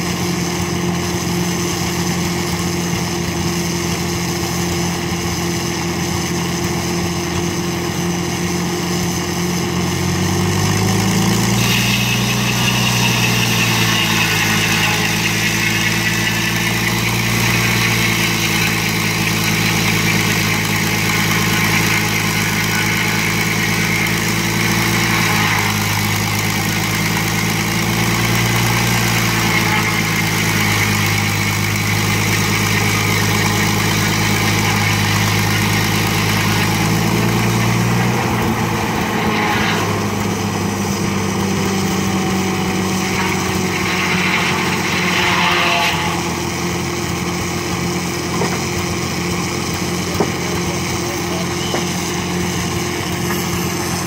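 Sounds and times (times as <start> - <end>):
saw blade rasping through wood: 0.0 - 54.0
sawmill engine running under load: 0.0 - 54.0.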